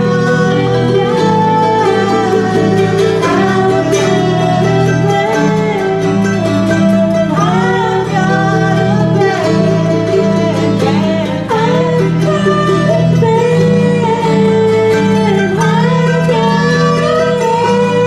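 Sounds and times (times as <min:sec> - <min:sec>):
acoustic guitar: 0:00.0 - 0:18.0
mandolin: 0:00.0 - 0:18.0
upright bass plucking: 0:00.0 - 0:18.0
women singing: 0:00.0 - 0:18.0.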